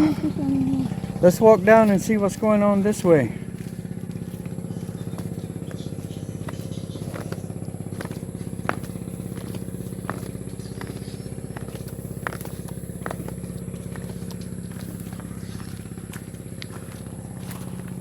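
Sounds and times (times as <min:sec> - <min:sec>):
footsteps on wooden planks: 0:00.0 - 0:18.0
small engine running: 0:00.0 - 0:18.0.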